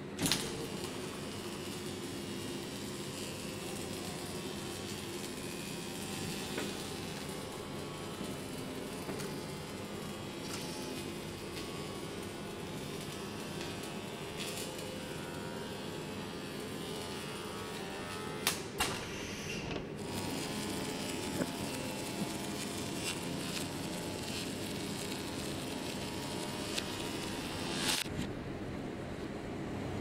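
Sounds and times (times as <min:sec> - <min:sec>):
machine whirring: 0:00.0 - 0:28.3.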